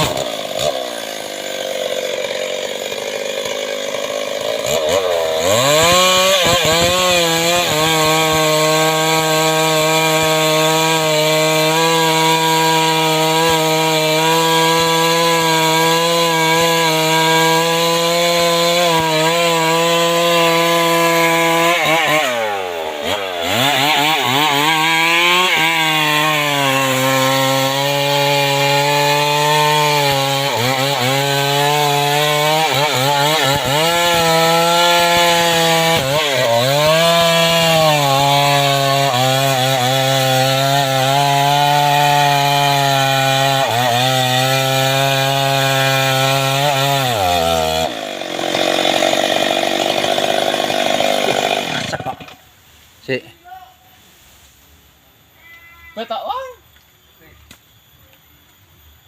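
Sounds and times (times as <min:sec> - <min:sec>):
chainsaw cutting wood: 0:00.0 - 0:52.4.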